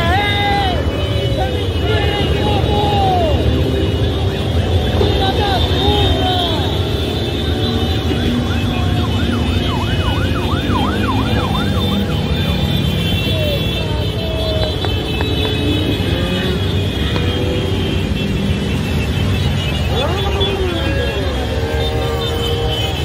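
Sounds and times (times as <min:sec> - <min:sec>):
motorcycles passing: 0:00.0 - 0:23.0.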